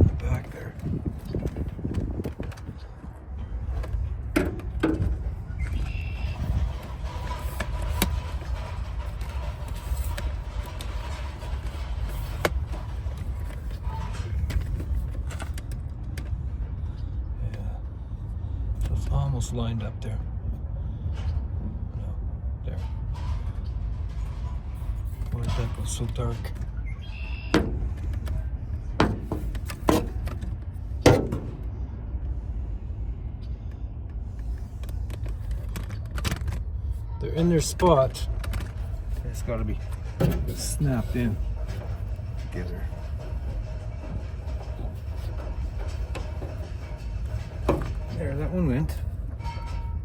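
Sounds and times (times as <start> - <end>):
steady low hum: 0.0 - 50.0
steady low rumble: 0.0 - 50.0.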